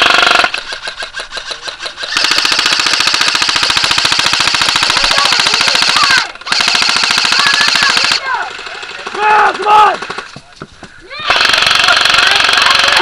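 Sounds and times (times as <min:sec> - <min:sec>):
airsoft rifles firing full auto: 0:00.0 - 0:10.4, 0:11.2 - 0:13.0.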